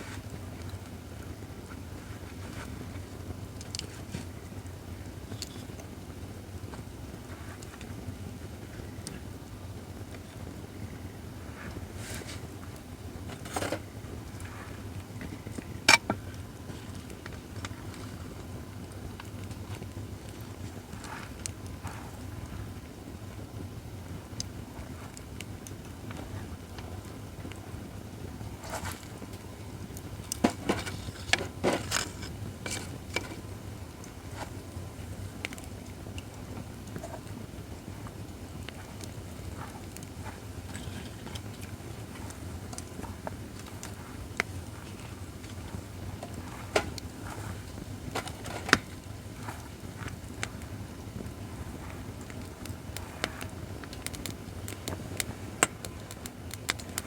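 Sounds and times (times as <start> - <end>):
fire crackles and pops: 0.0 - 57.0
firewood burning: 0.0 - 57.0
low steady rumble: 0.0 - 57.0.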